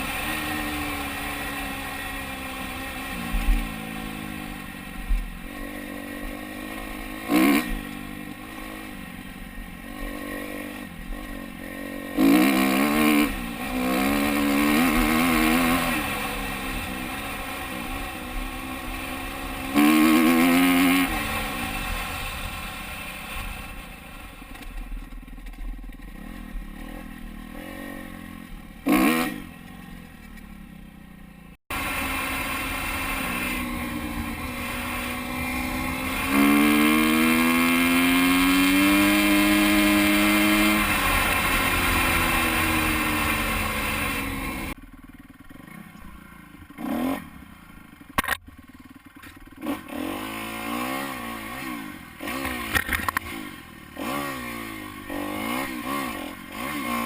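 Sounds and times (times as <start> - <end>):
dirt bike engine revving: 0.0 - 30.2, 31.7 - 57.0.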